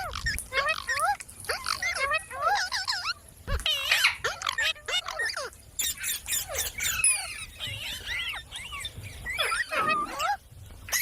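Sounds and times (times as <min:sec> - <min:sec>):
parrot chirping and screeching: 0:00.0 - 0:11.0.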